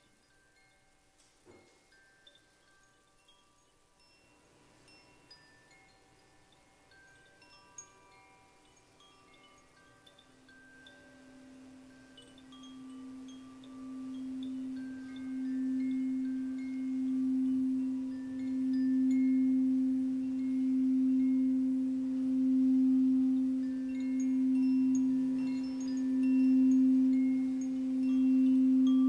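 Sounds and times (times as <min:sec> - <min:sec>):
wind chimes tinkling: 0:00.0 - 0:29.0
singing bowl low tone: 0:04.9 - 0:29.0.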